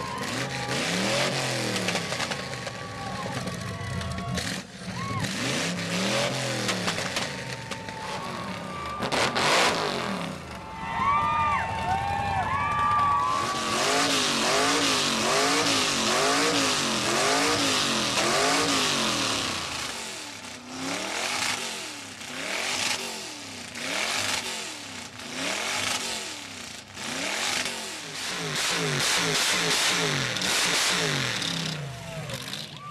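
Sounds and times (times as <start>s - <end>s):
car engine revving: 0.0s - 10.6s, 13.3s - 32.7s.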